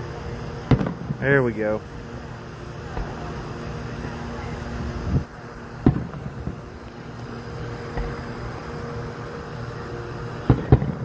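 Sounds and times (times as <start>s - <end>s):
distant fireworks booming: 0.0s - 11.0s
low hum: 0.0s - 11.0s
night insects chirping: 0.0s - 11.0s.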